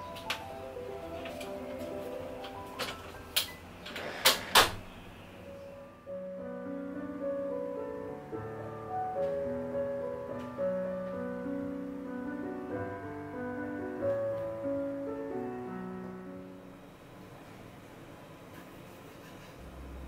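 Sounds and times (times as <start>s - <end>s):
slow piano tune: 0.0s - 18.5s.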